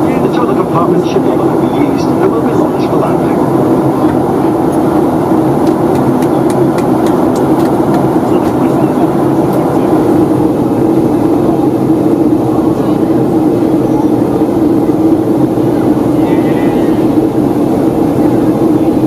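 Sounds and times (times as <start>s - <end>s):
aircraft cabin drone: 0.0s - 19.0s.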